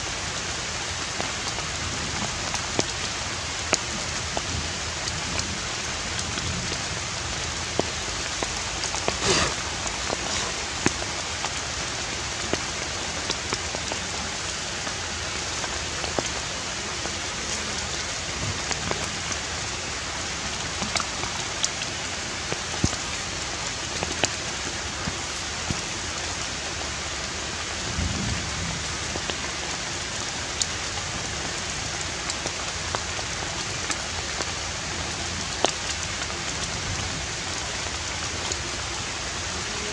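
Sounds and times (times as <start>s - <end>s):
outdoor rain-like hiss: 0.0s - 39.9s.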